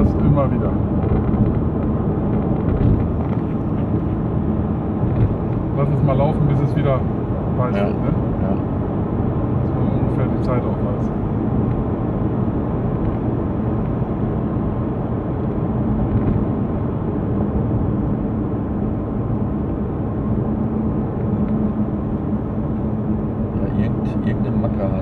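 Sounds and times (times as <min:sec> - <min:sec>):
car engine idling in cabin: 0:00.0 - 0:25.0.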